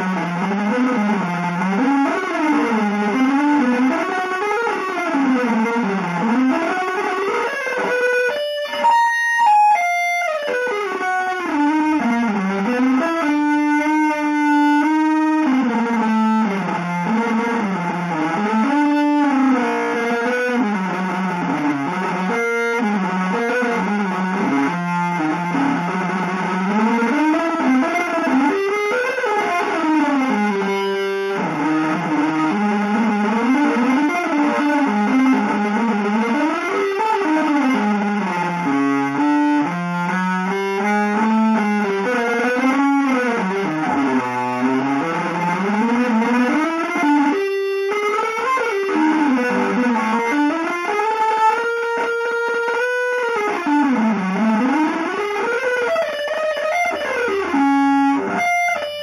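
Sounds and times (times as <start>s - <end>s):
electric guitar sliding notes: 0.0s - 59.0s.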